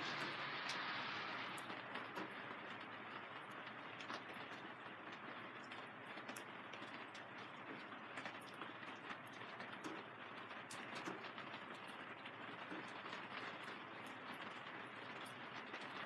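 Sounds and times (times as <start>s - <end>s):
rain hissing on plastic: 0.0s - 16.0s
raindrops tapping plastic sheeting: 0.0s - 16.0s.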